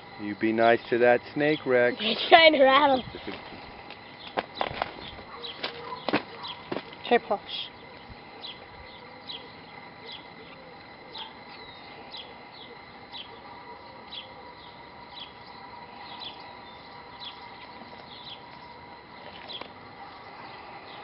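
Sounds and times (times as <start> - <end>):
faint high whine: 0.0 - 21.0
small bird chirping: 2.8 - 21.0.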